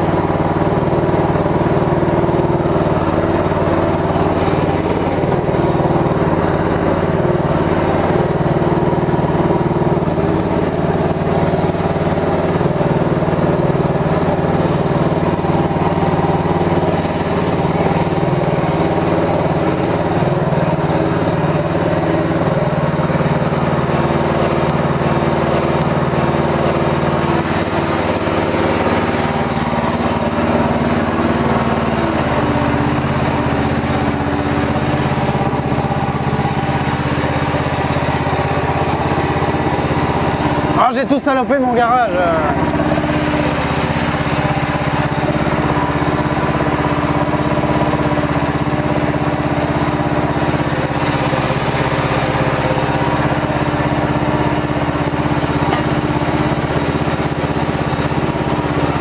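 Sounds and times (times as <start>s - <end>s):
small excavator engine running: 0.0s - 59.0s.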